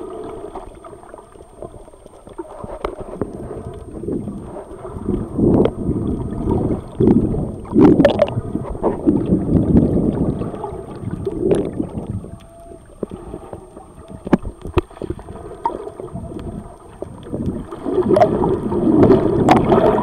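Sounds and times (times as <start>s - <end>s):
muffled underwater swishing and bubbling: 0.0s - 20.0s.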